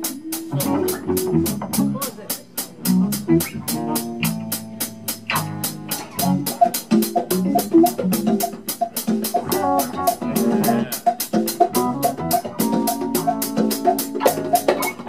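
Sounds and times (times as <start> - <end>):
funk band playing: 0.0 - 15.0
high ticking percussion: 0.0 - 15.0.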